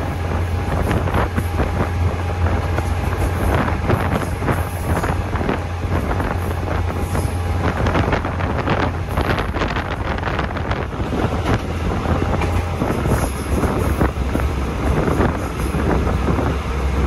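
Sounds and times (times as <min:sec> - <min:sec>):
vehicle rumble: 0:00.0 - 0:17.0
wind buffeting microphone: 0:00.0 - 0:17.0.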